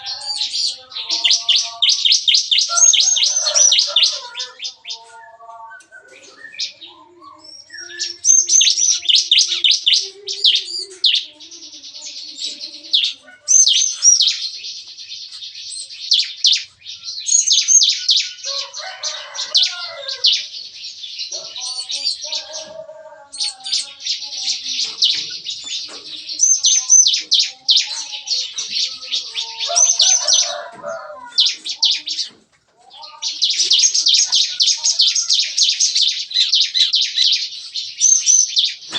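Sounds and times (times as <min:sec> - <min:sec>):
songbirds rapid rattling song: 0:00.0 - 0:38.9.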